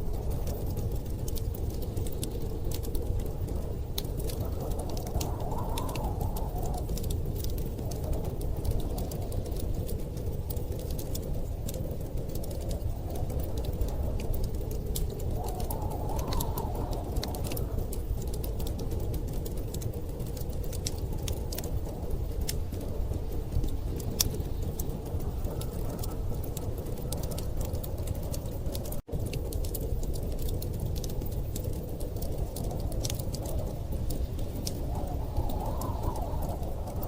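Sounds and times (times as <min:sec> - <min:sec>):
blizzard wind rushing: 0:00.0 - 0:37.0
wood fire crackling: 0:00.0 - 0:37.0.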